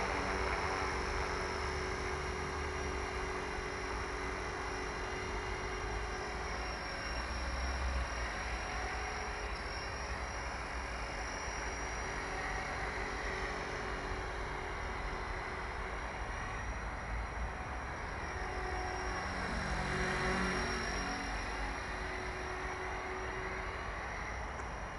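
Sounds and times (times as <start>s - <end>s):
faint steady whine: 0.0s - 24.9s.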